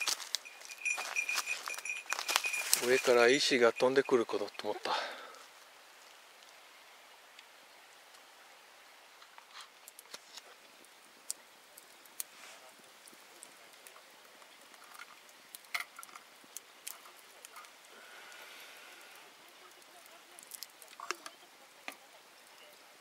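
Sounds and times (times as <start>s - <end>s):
campfire crackling: 0.0s - 23.0s
low hiss: 0.0s - 23.0s.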